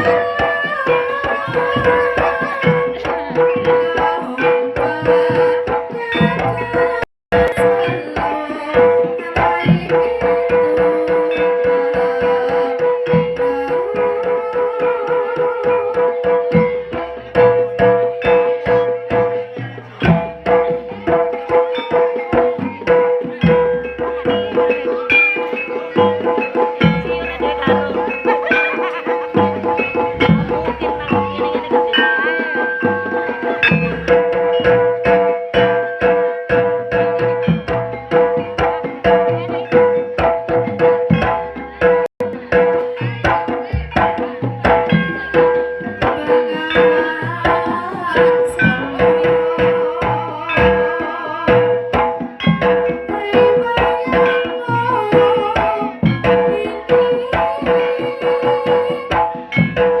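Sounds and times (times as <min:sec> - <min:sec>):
gamelan melody: 0:00.0 - 1:00.0
hand drums beating rhythm: 0:00.0 - 1:00.0.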